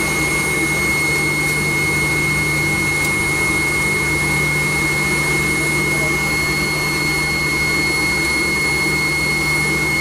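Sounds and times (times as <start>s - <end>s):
airplane cabin engine whine: 0.0s - 10.0s.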